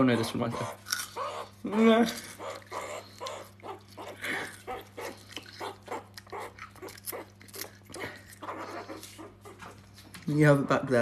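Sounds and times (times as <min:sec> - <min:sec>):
animal crunching celery: 0:00.0 - 0:09.4.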